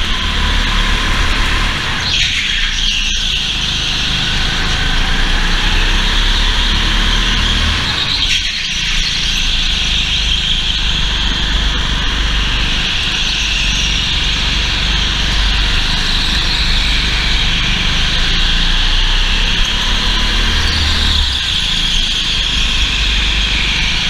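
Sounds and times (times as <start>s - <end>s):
go-kart engine drone: 0.0s - 24.0s.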